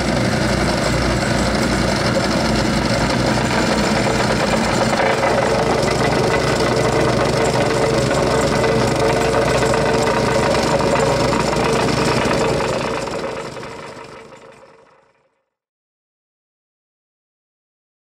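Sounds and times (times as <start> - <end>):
plate compactor droning hum: 0.0 - 15.2.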